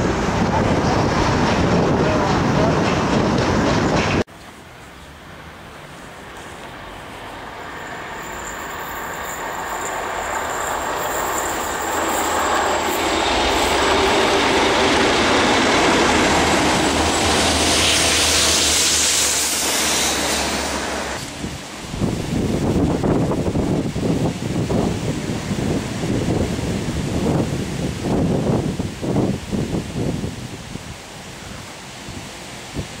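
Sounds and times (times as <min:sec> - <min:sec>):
diesel locomotive engine: 0:00.0 - 0:33.0
rail noise: 0:00.0 - 0:33.0.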